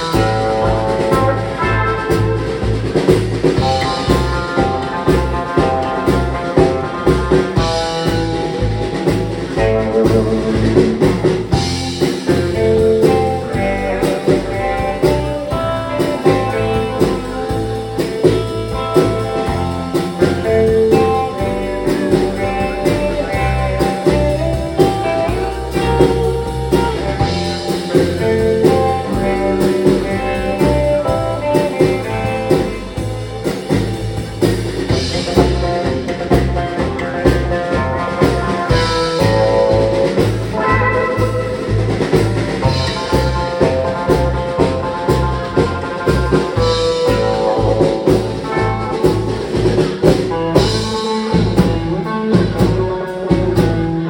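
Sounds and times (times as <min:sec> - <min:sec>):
drum kit: 0:00.0 - 0:54.0
electric guitar lead melody: 0:00.0 - 0:54.0
upright bass: 0:00.0 - 0:54.0.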